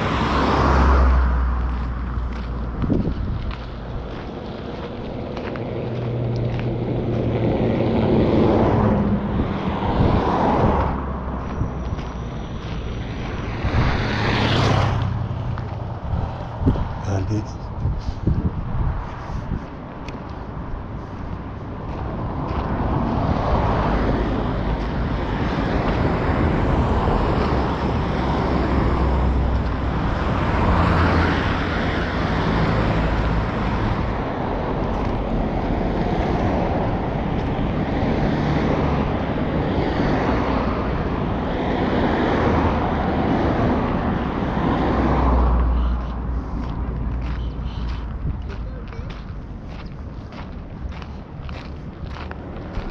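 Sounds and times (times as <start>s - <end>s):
road traffic passing: 0.0s - 52.9s.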